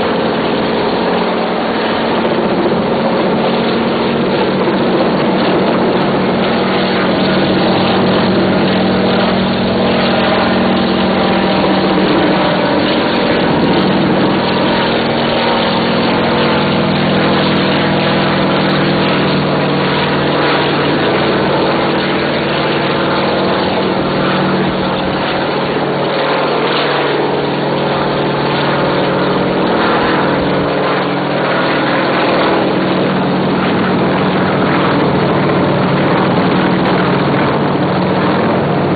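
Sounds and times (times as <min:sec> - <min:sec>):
helicopter engine and rotors drone: 0:00.0 - 0:38.9.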